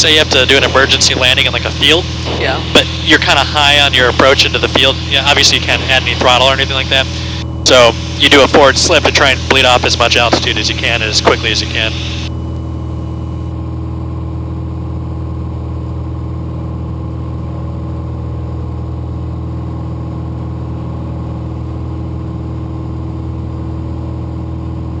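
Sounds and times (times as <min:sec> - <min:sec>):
airplane engine droning in cabin: 0:00.0 - 0:25.0.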